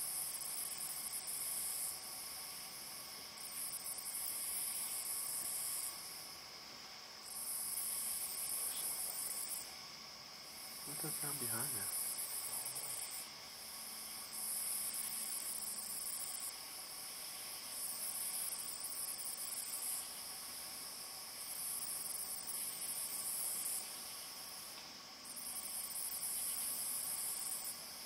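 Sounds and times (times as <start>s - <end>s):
faint steady hiss: 0.0s - 28.0s
night insects trilling: 0.0s - 28.0s.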